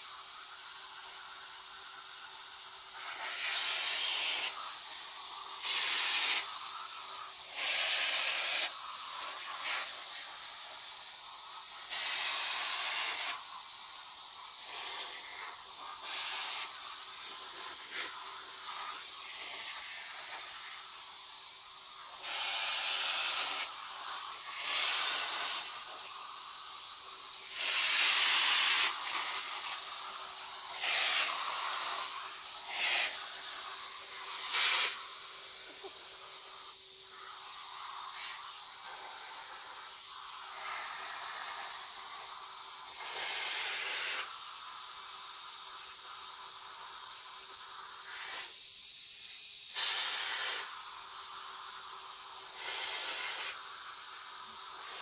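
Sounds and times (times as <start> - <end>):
vacuum cleaner suction: 0.0 - 55.0.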